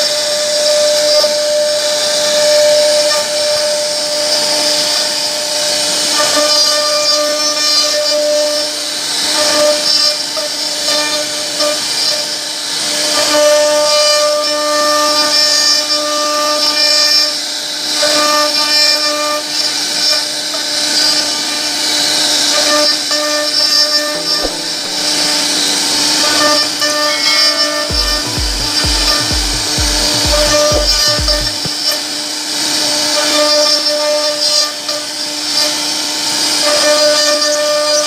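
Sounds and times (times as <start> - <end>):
router bit carving wood: 0.0 - 38.0
router spindle whining: 0.0 - 38.0.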